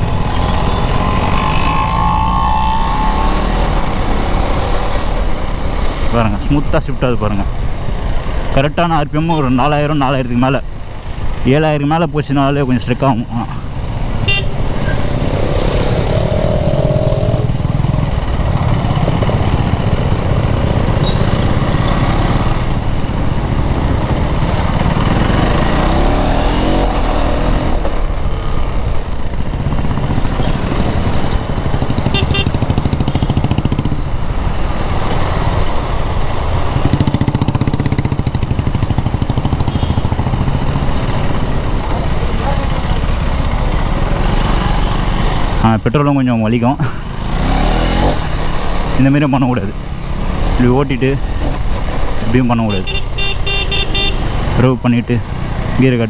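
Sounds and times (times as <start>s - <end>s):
motorcycle engine revving: 0.0s - 6.5s, 13.3s - 45.7s, 46.8s - 56.0s.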